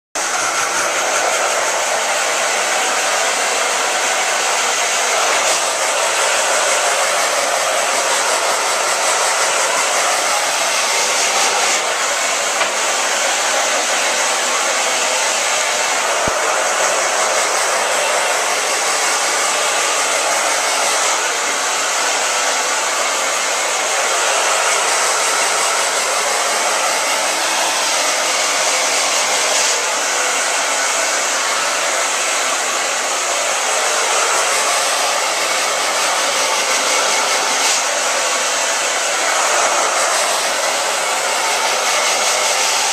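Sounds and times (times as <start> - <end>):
hair dryer blowing: 0.2 - 42.9.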